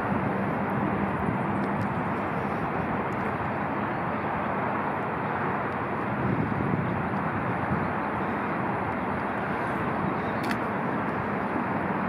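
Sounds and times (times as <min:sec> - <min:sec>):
outdoor background hiss and rumble: 0:00.0 - 0:12.0.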